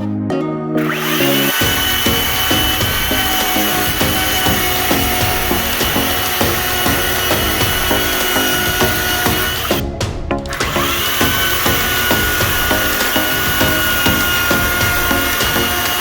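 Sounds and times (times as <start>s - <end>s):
chainsaw cutting wood: 0.8s - 9.8s, 10.5s - 16.0s.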